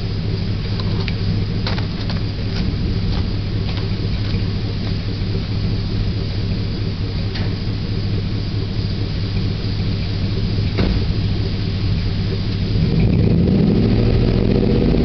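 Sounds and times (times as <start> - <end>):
engine idling through exhaust: 0.0 - 15.0.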